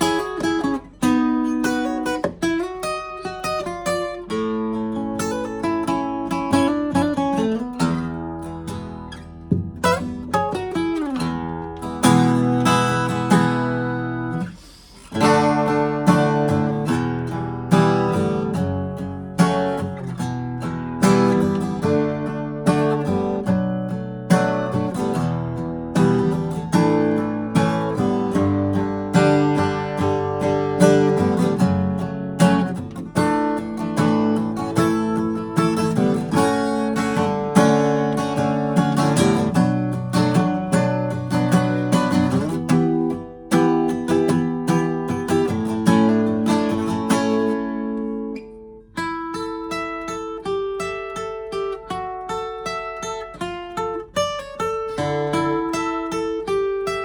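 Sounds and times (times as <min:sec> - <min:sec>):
acoustic guitar strummed chords: 0:00.0 - 0:57.0.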